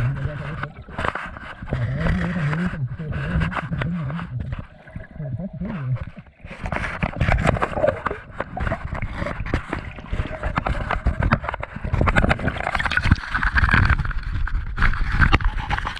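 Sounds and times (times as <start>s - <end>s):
water splashing and gurgling: 0.0s - 15.9s.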